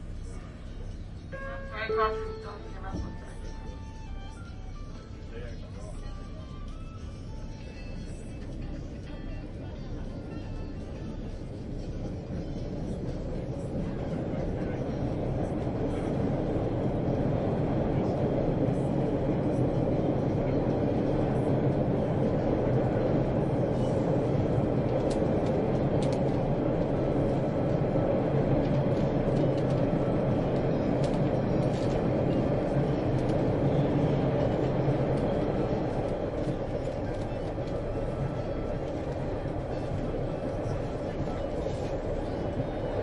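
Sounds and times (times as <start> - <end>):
train rumble from inside carriage: 0.0 - 43.0.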